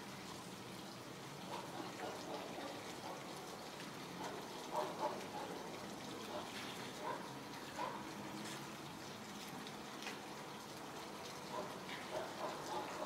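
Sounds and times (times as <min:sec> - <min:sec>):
fountain splashing: 0:00.0 - 0:13.0.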